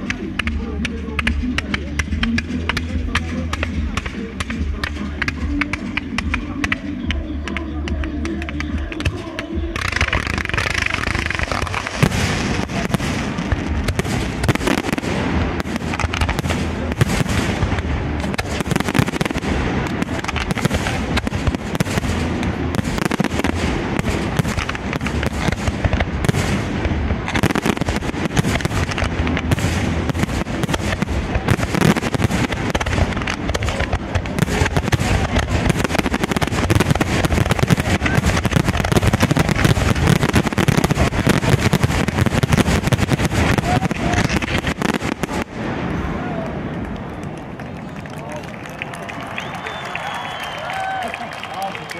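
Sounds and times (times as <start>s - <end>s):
firework fountains hissing: 0.0s - 46.8s, 49.2s - 51.9s
fireworks bursts and crackles: 0.0s - 51.9s.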